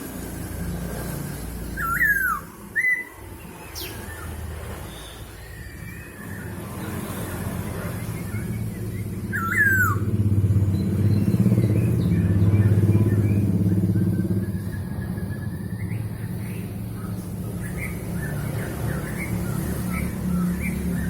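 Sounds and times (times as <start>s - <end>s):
vehicle engine passing: 3.2s - 21.0s.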